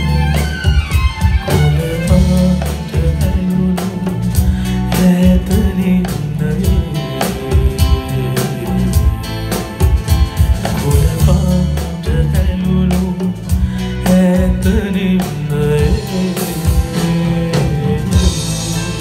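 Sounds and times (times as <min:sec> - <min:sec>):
acoustic guitar: 0:00.0 - 0:19.0
drum kit beat: 0:00.0 - 0:19.0
keyboard: 0:00.0 - 0:19.0
man singing pop ballad: 0:00.0 - 0:19.0.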